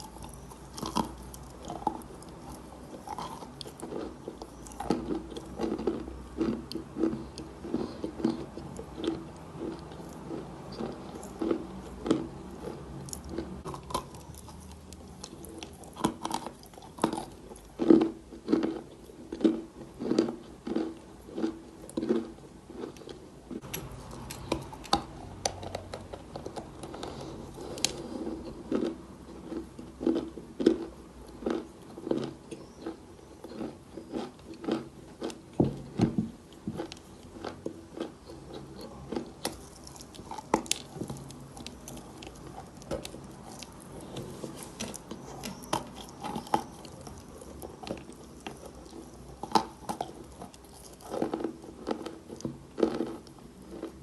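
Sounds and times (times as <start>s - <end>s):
chewing chalk crunches: 0.0s - 54.0s.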